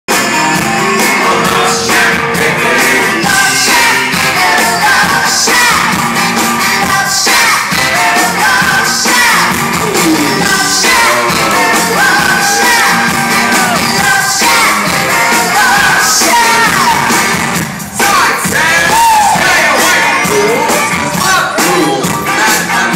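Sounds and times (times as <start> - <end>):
live hard rock band: 0.1 - 22.9
person singing: 0.2 - 5.9, 6.7 - 17.2, 18.0 - 22.9.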